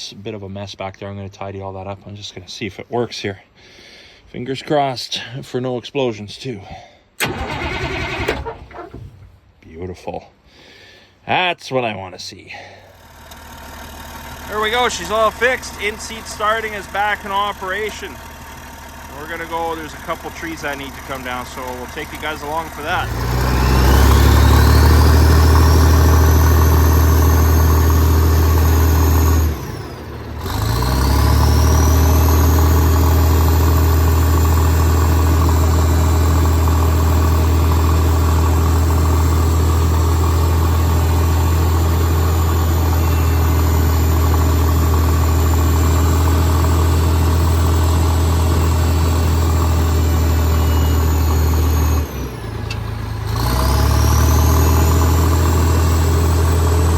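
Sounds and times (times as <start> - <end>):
diesel engine revving: 7.2 - 9.3, 13.0 - 56.9.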